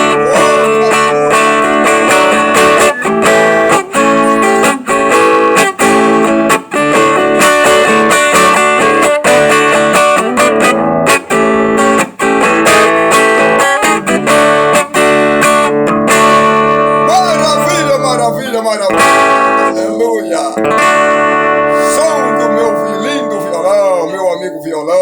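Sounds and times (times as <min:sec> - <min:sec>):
acoustic guitar chords: 0:00.0 - 0:25.0.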